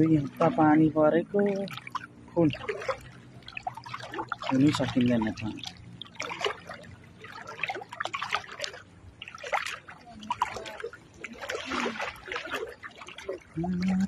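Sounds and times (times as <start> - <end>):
person wading through water: 0.0 - 14.0.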